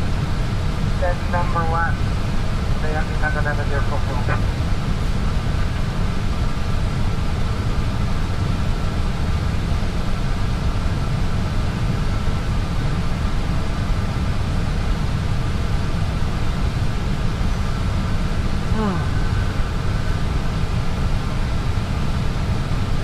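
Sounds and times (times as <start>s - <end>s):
faint steady hum: 0.0s - 23.0s
idling engines rumble: 0.0s - 23.0s.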